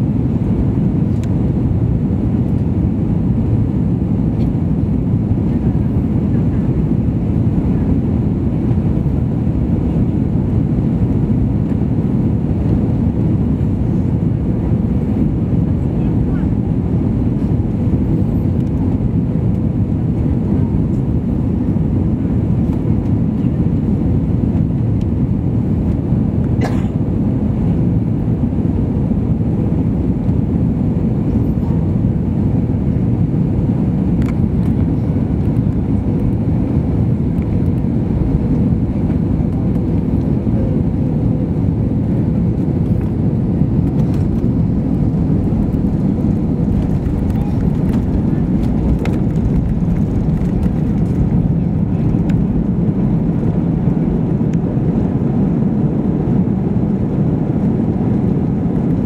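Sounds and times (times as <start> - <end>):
airplane cabin engine noise: 0.0 - 59.0.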